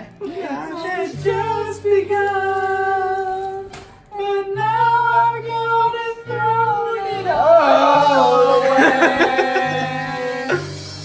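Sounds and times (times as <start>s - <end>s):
backing track music: 0.0s - 11.0s
voices singing: 0.0s - 11.0s.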